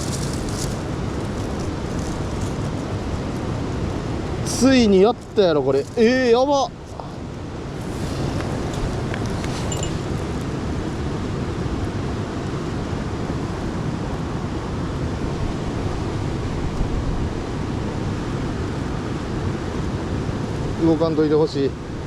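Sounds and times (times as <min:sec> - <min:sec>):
mountain stream rushing: 0:00.0 - 0:22.0.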